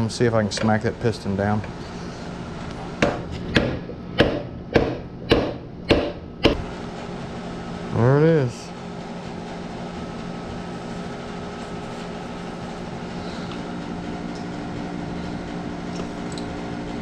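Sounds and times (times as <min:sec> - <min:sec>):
fan or motor humming: 0:00.0 - 0:17.0.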